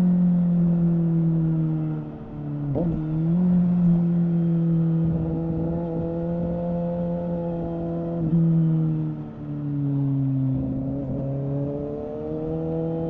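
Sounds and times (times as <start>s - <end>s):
motorcycle engine pulling steadily: 0.0s - 13.0s.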